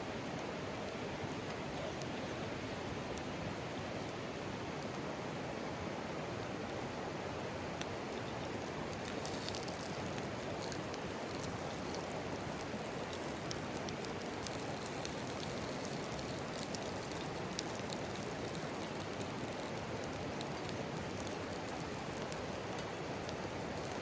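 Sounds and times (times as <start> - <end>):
small crackles and pops: 0.1 - 24.0.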